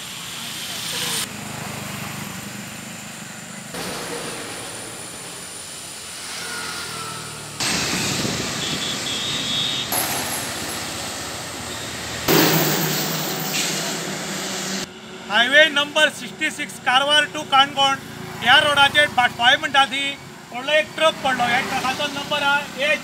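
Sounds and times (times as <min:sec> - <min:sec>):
motor scooters passing: 0:00.0 - 0:14.1, 0:14.7 - 0:23.0
trucks passing: 0:00.0 - 0:23.0.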